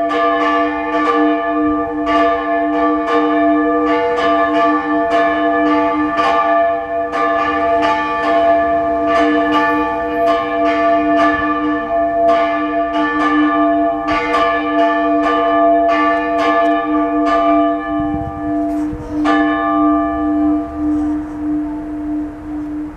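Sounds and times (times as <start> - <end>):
deep church bell humming: 0.0 - 22.9.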